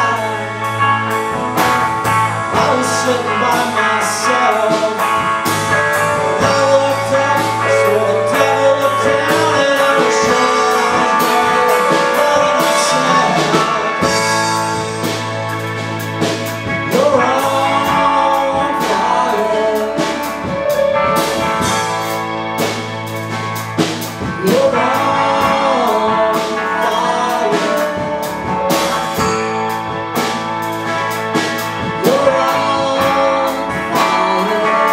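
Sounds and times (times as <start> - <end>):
person singing: 0.0 - 1.4, 2.1 - 22.9, 23.7 - 34.9
rock band playing live: 0.0 - 34.9.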